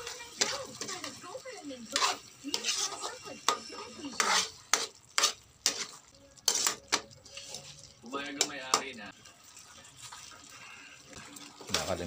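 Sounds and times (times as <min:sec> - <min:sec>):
metal ladle scraping a pan: 0:00.0 - 0:12.0.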